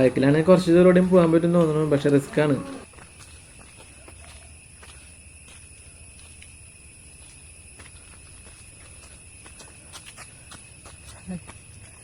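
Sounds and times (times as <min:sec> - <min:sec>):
footsteps on dirt track: 0:00.0 - 0:12.0
insects chirring: 0:00.0 - 0:12.0.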